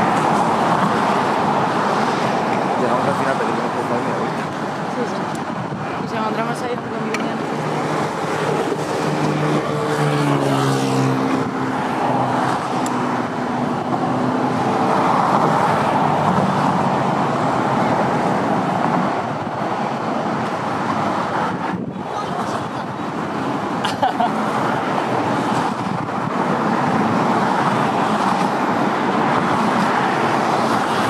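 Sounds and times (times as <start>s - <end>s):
road traffic passing: 0.0s - 31.0s
vehicle engine drone: 0.0s - 31.0s.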